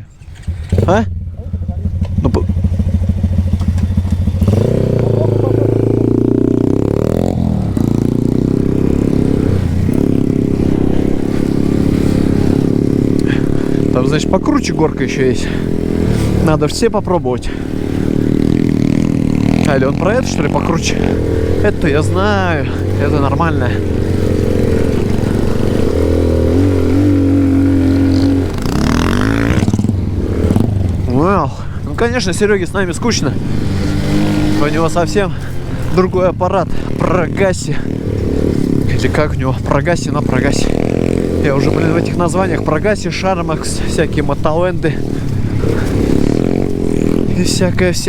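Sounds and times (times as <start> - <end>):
moped engine running: 0.2 - 48.0.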